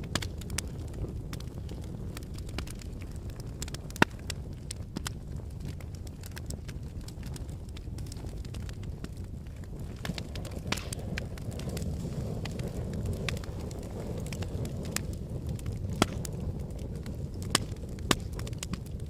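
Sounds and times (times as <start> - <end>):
fire crackling and popping: 0.0 - 19.0
low rush of flames: 0.0 - 19.0.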